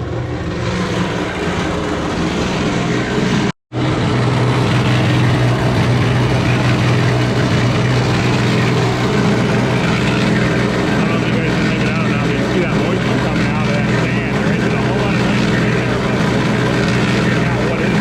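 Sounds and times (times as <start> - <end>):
concrete mixer running: 0.0 - 18.0.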